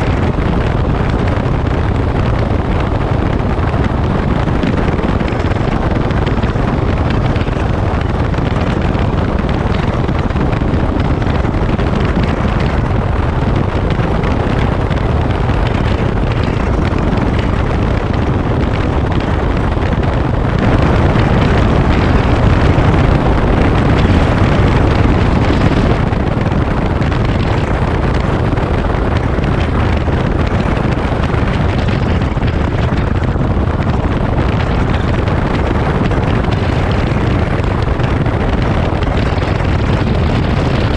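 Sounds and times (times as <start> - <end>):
motorcycle engine running: 0.0 - 40.9
wind rush over microphone: 0.0 - 40.9.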